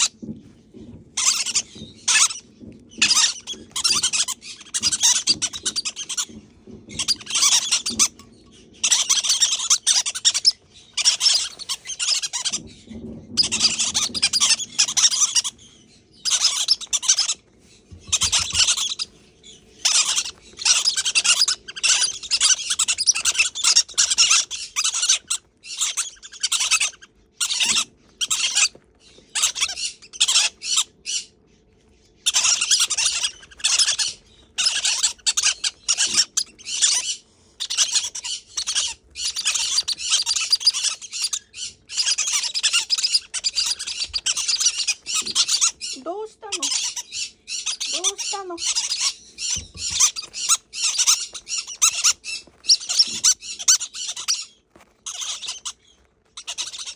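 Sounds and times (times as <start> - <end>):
parrot chicks raspy begging calls: 0.0 - 56.9.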